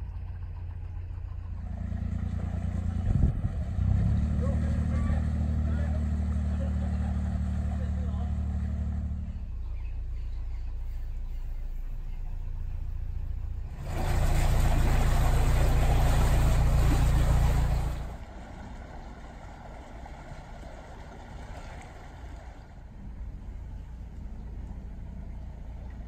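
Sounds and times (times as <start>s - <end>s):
boat diesel engine running: 0.0s - 26.0s.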